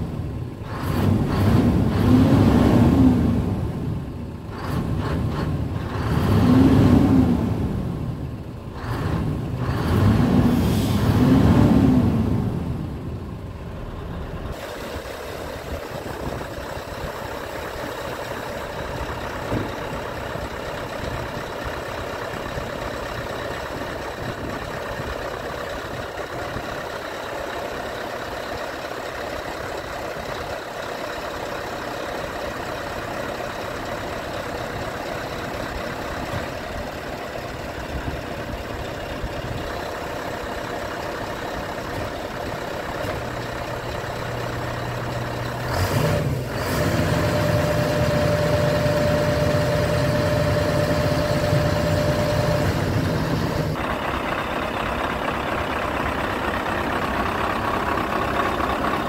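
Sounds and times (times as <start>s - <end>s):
diesel truck engine revving: 0.0s - 59.0s
hydraulics running: 4.3s - 59.0s.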